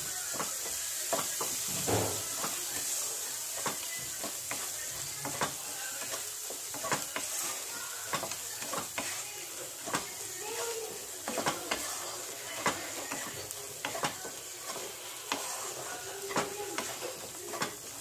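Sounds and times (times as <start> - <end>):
onions and spices sizzling in pan: 0.0 - 18.0
spatula scraping and knocking pan: 0.2 - 18.0.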